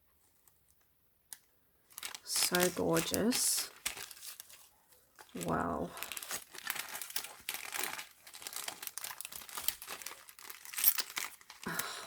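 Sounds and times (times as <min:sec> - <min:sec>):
paper crinkling and rustling: 0:01.9 - 0:12.0.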